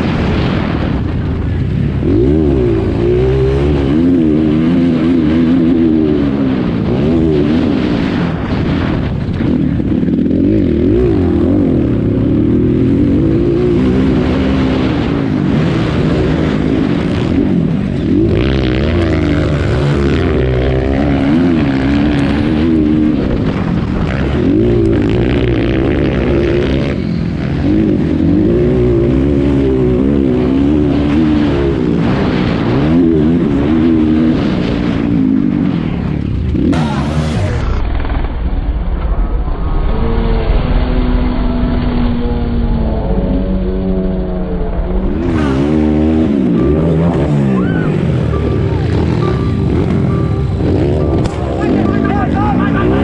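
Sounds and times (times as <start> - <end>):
dirt bike engine revving: 0.0 - 38.5, 39.9 - 53.0.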